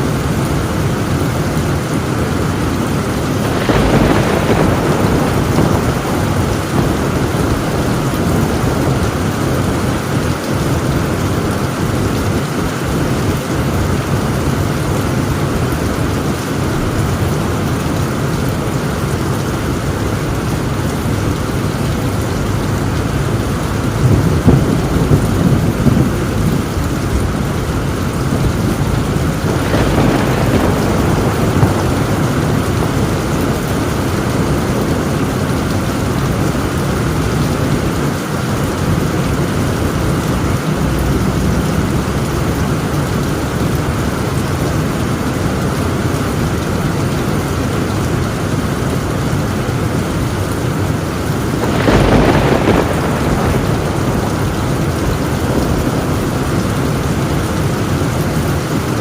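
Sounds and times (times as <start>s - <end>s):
heavy rain on a tin roof: 0.0s - 59.0s
thunder rumbling: 0.0s - 59.0s.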